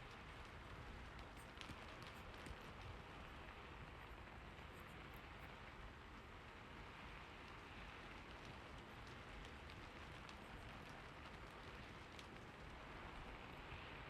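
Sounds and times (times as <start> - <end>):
faint rainfall: 0.0 - 14.0
raindrop ticks: 0.0 - 14.0.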